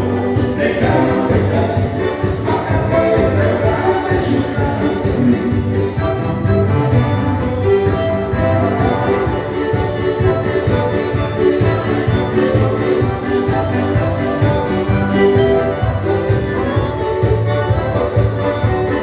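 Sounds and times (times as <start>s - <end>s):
dance-band music: 0.0s - 19.0s.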